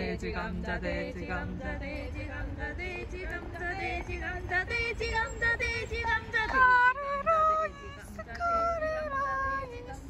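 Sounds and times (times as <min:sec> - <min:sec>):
woman singing: 0:00.0 - 0:10.0.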